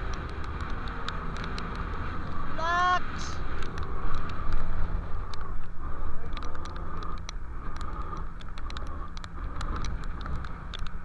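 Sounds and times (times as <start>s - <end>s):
sharp ticks: 0.0s - 2.5s, 3.5s - 11.0s
boat engine running: 0.0s - 11.0s.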